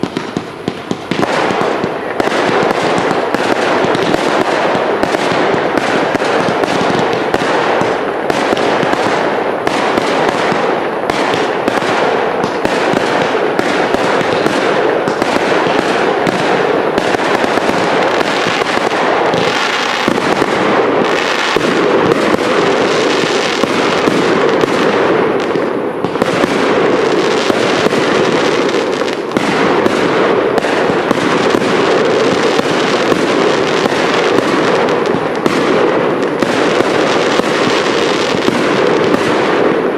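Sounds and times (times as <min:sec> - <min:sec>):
fireworks launches and bursts: 0:00.0 - 0:39.9.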